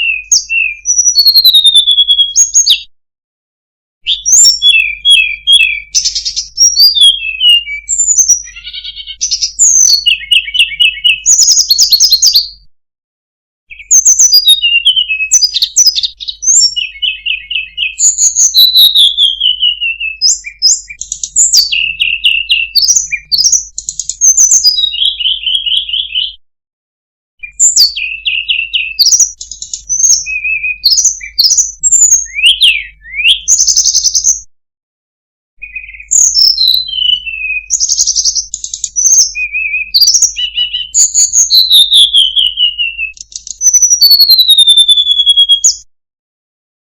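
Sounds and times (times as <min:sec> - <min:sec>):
bird singing chirps and trills: 0:00.0 - 0:02.9, 0:04.1 - 0:12.7, 0:13.7 - 0:26.4, 0:27.4 - 0:34.5, 0:35.6 - 0:45.9.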